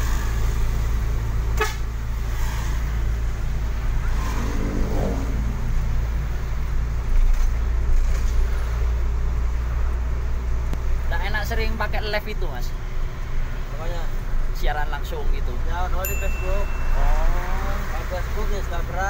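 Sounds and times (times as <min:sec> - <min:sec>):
truck engine drone: 0:00.0 - 0:14.5, 0:15.5 - 0:19.0
road noise: 0:00.0 - 0:19.0.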